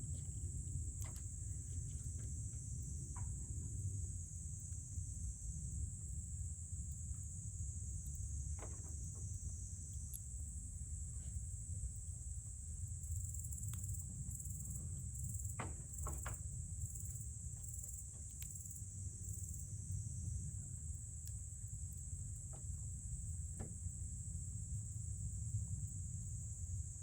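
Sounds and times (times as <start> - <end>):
high insect trill: 0.0 - 27.0.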